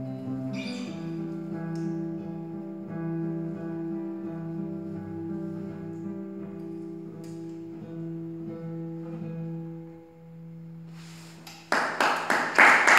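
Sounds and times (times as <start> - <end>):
fingerstyle classical guitar: 0.0 - 11.4.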